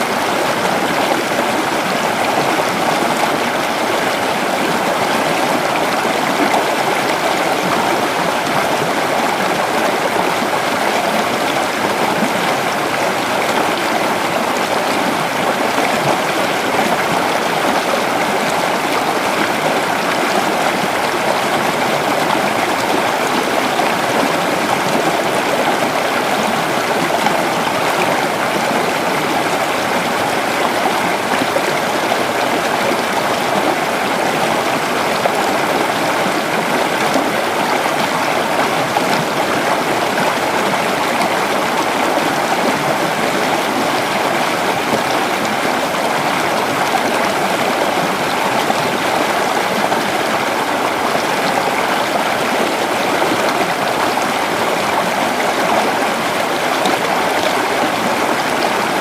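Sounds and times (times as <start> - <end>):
creek water babbling over rocks: 0.0 - 59.0.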